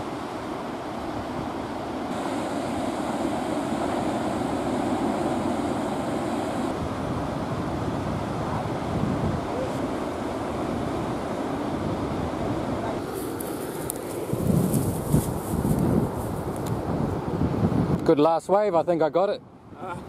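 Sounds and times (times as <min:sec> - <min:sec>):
ocean surf breaking on beach: 0:00.0 - 0:18.0
wind buffeting microphone: 0:00.0 - 0:20.0.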